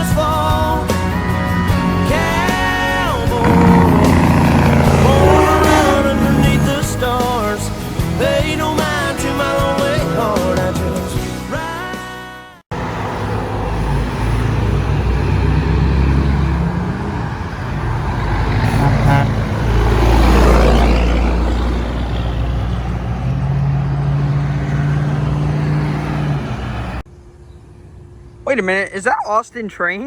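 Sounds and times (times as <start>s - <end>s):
trucks passing on road: 0.0s - 11.5s, 12.7s - 28.4s.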